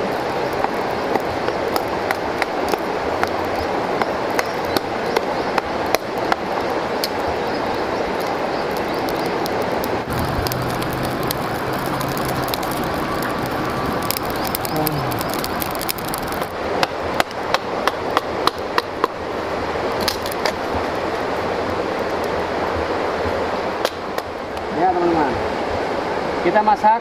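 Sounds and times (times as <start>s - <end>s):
burning twigs popping: 0.0s - 24.7s
campfire crackling: 0.0s - 26.5s
steady rushing noise: 0.0s - 27.0s.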